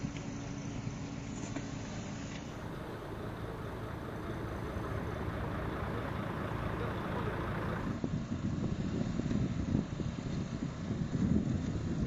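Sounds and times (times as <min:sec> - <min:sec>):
outdoor rumble with hiss: 0:00.0 - 0:12.0.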